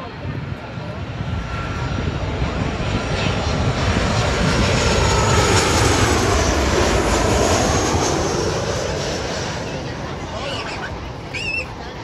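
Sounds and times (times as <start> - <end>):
jet engine rumble overhead: 0.0 - 12.0.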